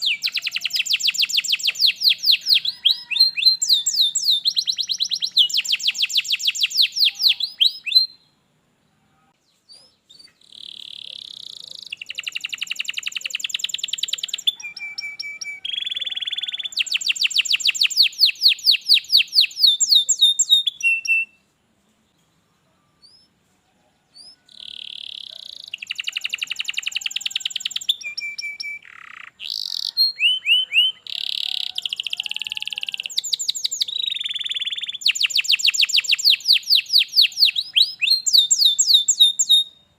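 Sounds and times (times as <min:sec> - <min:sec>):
canary singing trills: 0:00.0 - 0:21.5, 0:22.4 - 0:23.4, 0:24.0 - 0:39.9.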